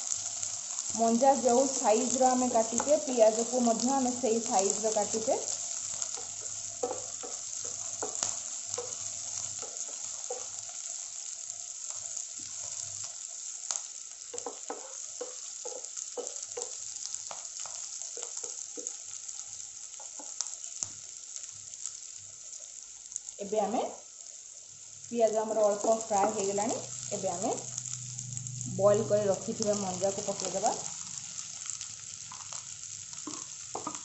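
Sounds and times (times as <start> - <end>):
onions sizzling in hot oil: 0.0 - 34.0.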